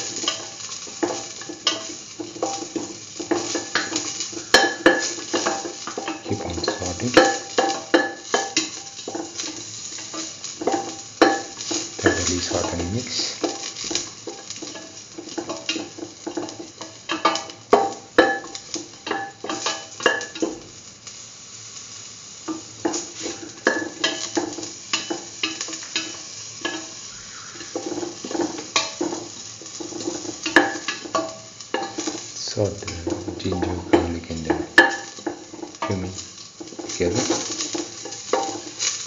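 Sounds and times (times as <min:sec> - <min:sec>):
spices sizzling in oil: 0:00.0 - 0:39.0.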